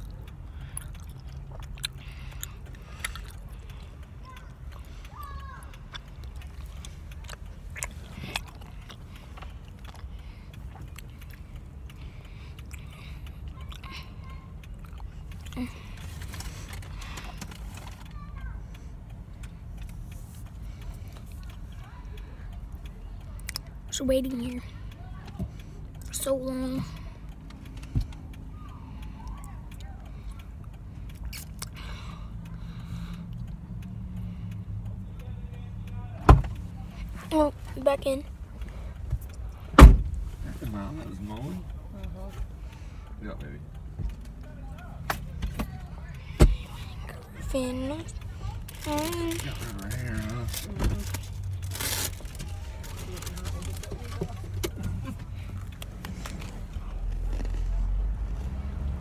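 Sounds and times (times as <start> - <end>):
engine humming: 0.0 - 59.0
low rumble inside car: 0.0 - 59.0.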